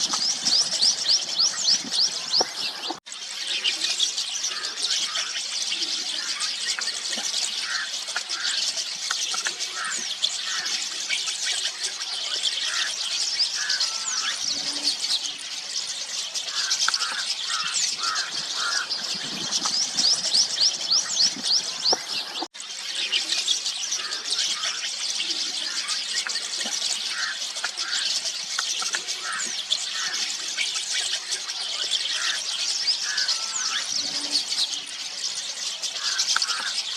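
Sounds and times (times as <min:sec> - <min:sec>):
flock of starlings chattering: 0:00.0 - 0:36.9.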